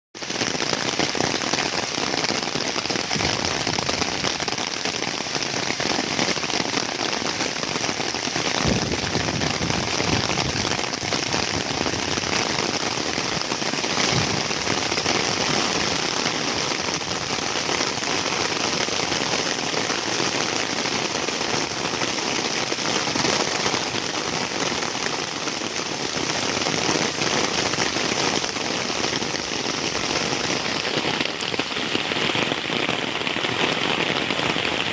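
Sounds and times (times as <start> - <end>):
heavy rain: 0.2 - 34.9.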